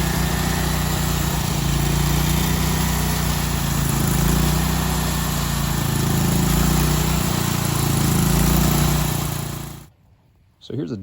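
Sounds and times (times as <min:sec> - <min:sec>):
engine running steadily: 0:00.0 - 0:09.9.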